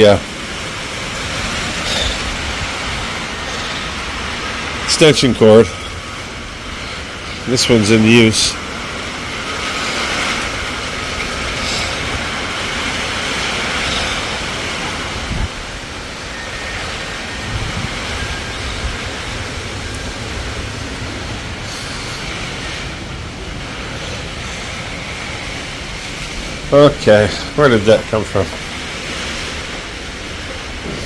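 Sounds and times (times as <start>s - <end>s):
rain: 0.0s - 31.0s
storm wind: 0.0s - 31.0s.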